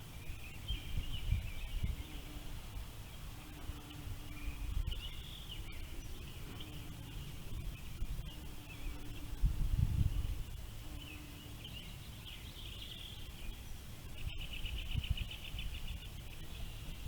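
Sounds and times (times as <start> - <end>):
birds chirping: 0.0 - 17.0
low rumble of wind: 0.0 - 17.0.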